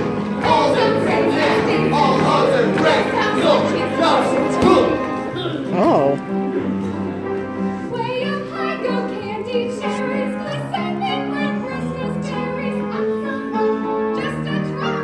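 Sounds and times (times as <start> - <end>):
mixed choir singing in harmony: 0.0 - 5.4, 6.6 - 15.0
instrumental accompaniment: 0.0 - 15.0.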